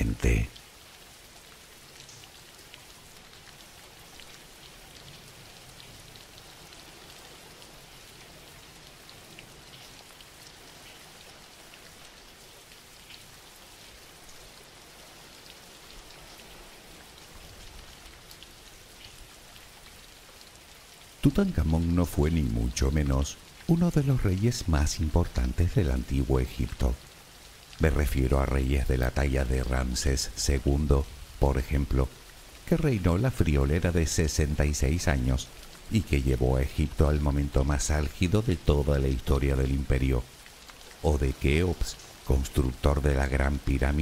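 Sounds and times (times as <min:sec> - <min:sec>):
rain falling: 0:00.0 - 0:44.0
raindrop ticks: 0:00.0 - 0:44.0.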